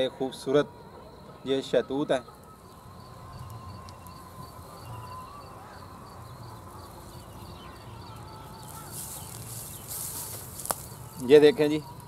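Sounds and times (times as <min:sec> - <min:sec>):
insects chirping: 0:00.0 - 0:12.0
thin wavering whistle: 0:00.9 - 0:12.0.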